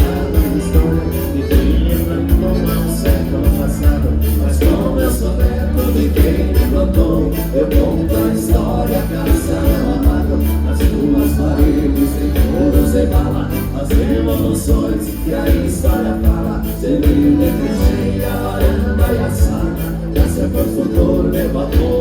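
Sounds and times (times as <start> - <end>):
bass and drums: 0.0 - 22.0
button accordion: 0.0 - 22.0
dance-band music: 0.0 - 22.0.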